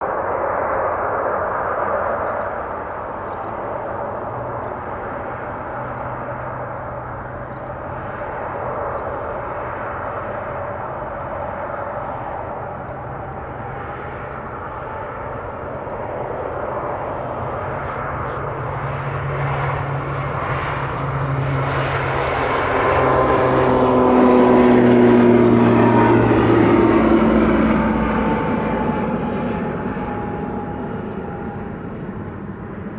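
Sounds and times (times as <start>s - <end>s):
turboprop airliner engines humming: 0.0s - 32.9s.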